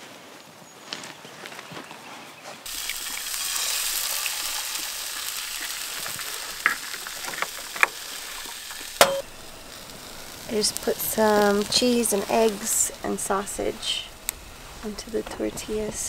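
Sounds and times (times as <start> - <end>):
food sizzling in a frying pan: 2.6 - 16.0
sharp ticks and pops: 2.7 - 16.0.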